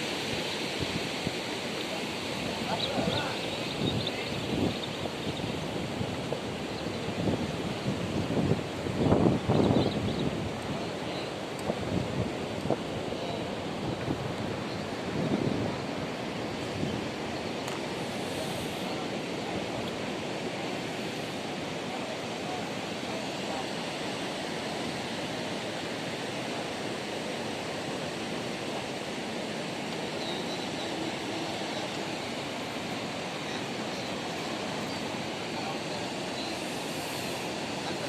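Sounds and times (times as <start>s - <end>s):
water rushing: 0.0s - 38.0s.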